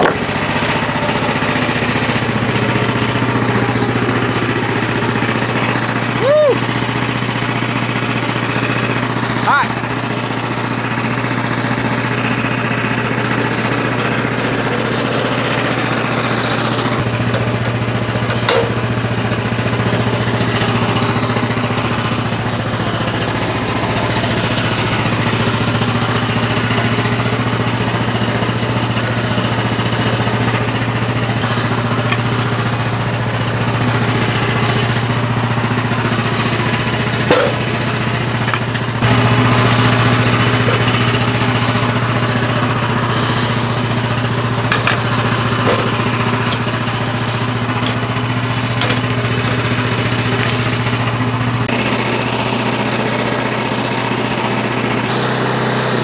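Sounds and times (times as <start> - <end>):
small gasoline engine idling: 0.0 - 56.0.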